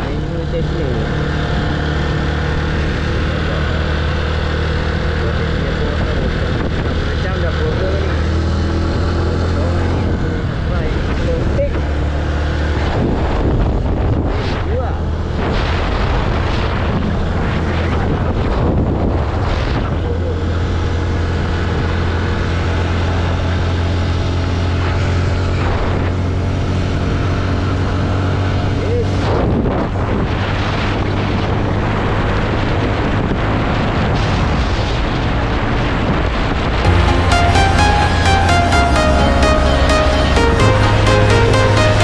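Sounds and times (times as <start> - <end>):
wind rushing over microphone: 0.0 - 23.4, 24.3 - 36.9
motorcycle engine accelerating: 0.0 - 34.0.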